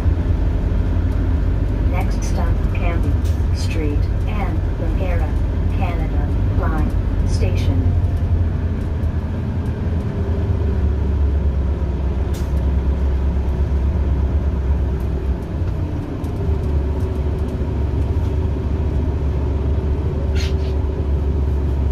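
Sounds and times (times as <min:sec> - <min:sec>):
bus engine droning: 0:00.0 - 0:21.9.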